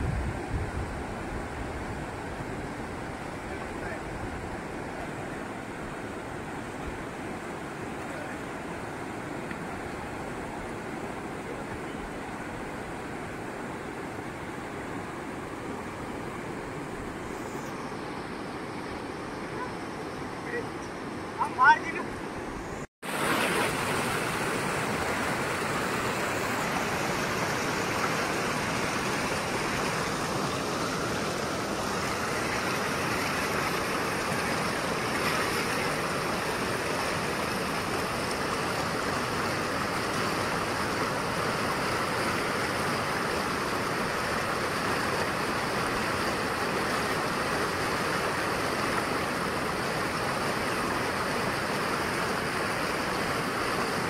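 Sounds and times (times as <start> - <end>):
river rushing over boulders: 0.0 - 54.0.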